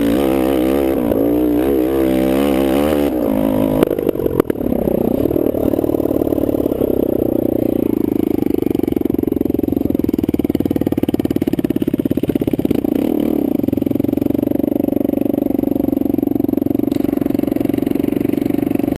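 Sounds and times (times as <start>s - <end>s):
quad engine running: 0.0s - 18.9s.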